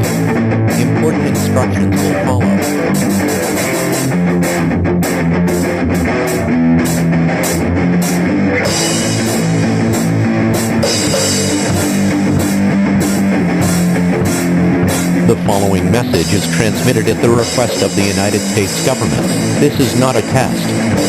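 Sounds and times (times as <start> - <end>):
held low bass notes: 0.0 - 5.3, 8.7 - 21.0
drum kit beat: 0.0 - 21.0
electric guitar: 0.0 - 21.0.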